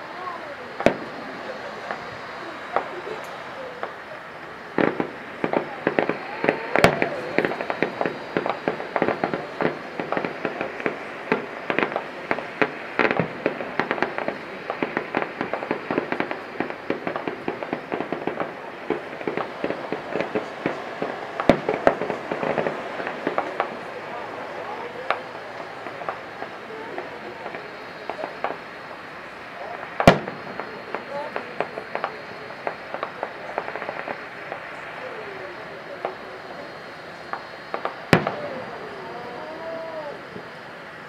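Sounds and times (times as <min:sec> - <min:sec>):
distant fireworks bangs and crackling: 0:00.0 - 0:41.0
loud firework report: 0:00.0 - 0:41.0.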